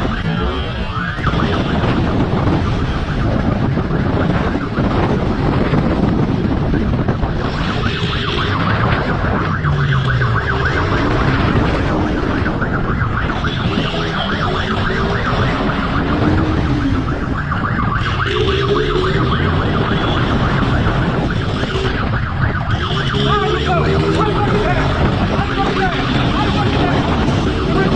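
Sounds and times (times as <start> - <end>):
police siren: 0.0 - 27.9
rush of noise: 0.0 - 27.9.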